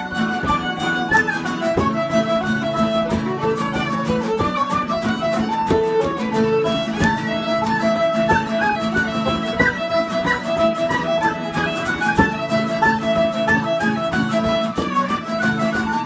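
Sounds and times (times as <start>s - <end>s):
tin whistle melody: 0.0s - 3.6s, 4.5s - 16.0s
fiddle melody: 0.0s - 16.0s
frame drum beat: 0.0s - 16.0s
strummed guitar: 0.0s - 16.0s.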